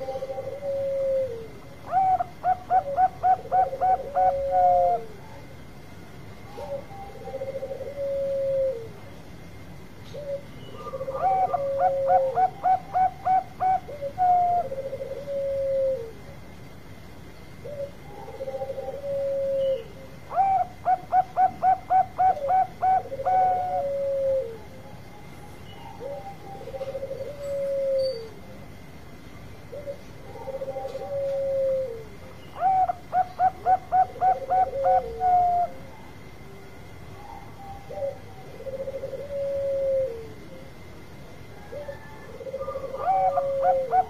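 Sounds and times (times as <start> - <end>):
dove cooing: 0.0 - 5.5, 6.4 - 9.1, 10.1 - 16.4, 17.6 - 28.6, 29.7 - 44.0.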